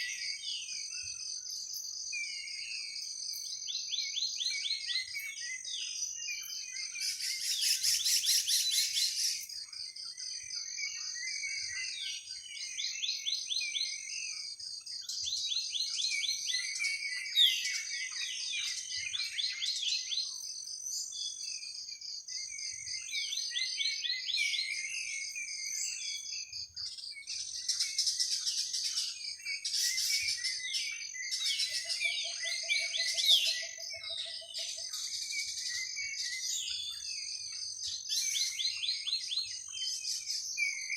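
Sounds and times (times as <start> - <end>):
birds chirping and trilling: 0.0 - 40.9
insect drone: 0.0 - 40.9.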